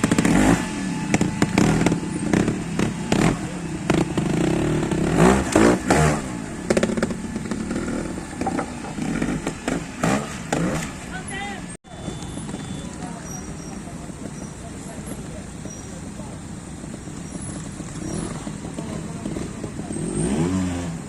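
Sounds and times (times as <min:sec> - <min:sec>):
motorcycle clattering over obstacles: 0:00.0 - 0:11.4, 0:12.1 - 0:21.0
motorcycle engine blipping: 0:00.0 - 0:20.4.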